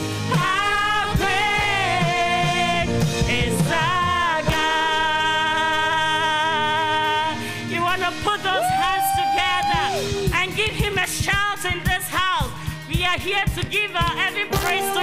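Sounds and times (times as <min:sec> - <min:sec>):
band accompaniment: 0:00.0 - 0:15.0.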